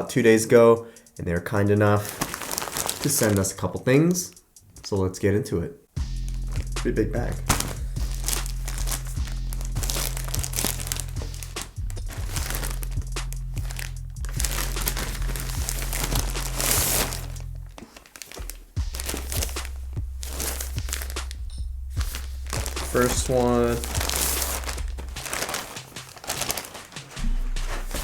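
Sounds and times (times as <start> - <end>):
shipping bag crinkling: 1.8 - 3.6, 6.3 - 28.0
background music with bass: 3.0 - 17.8, 18.4 - 28.0.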